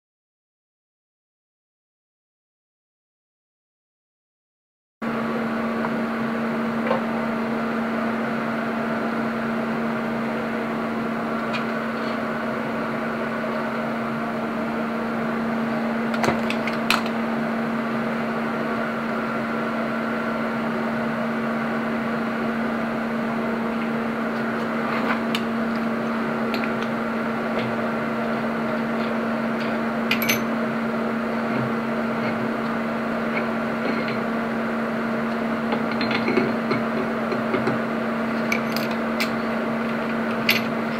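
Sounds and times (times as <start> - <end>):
steady machine hum: 5.0 - 40.9.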